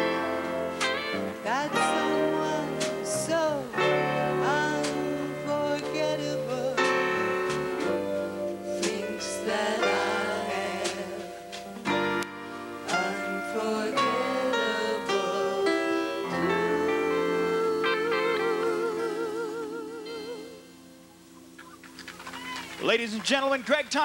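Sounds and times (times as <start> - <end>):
person singing: 0.0 - 11.6, 12.8 - 20.9
show band with piano: 0.0 - 20.4.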